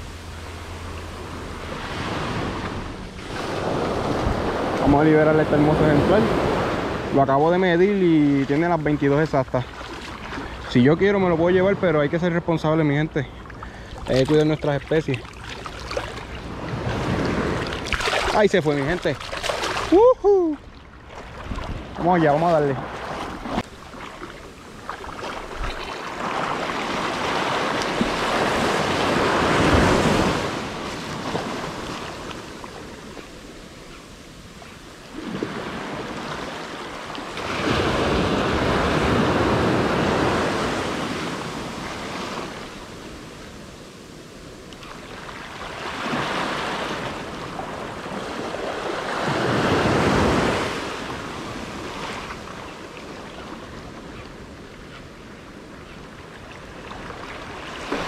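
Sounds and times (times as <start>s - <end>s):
small waves washing on beach: 0.0s - 58.0s.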